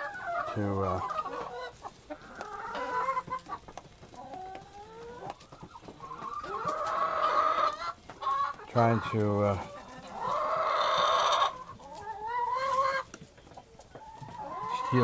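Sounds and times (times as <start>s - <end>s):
hens clucking and squawking: 0.0s - 15.0s.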